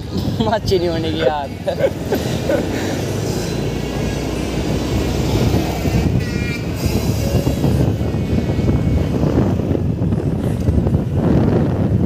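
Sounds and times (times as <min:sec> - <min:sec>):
road noise: 0:00.0 - 0:12.0
wind rumble on microphone: 0:00.0 - 0:12.0.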